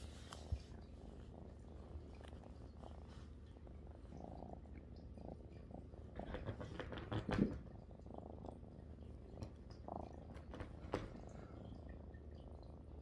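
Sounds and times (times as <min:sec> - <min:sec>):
kitten purring: 0:00.0 - 0:13.0.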